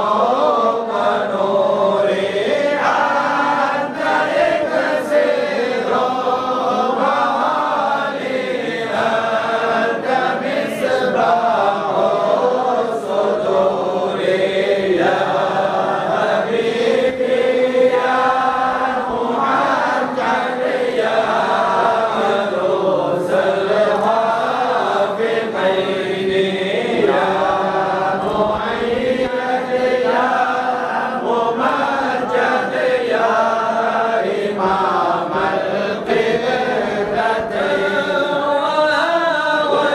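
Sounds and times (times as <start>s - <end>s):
men chanting through microphones: 0.0s - 39.9s.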